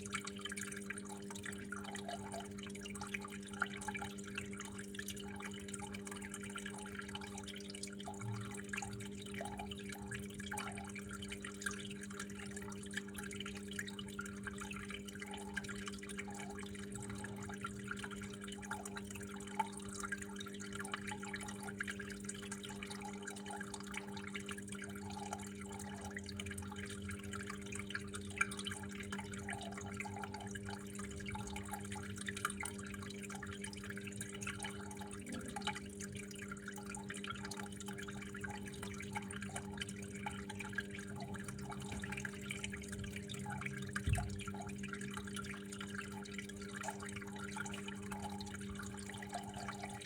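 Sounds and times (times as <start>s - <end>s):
water trickling and dripping: 0.0s - 50.0s.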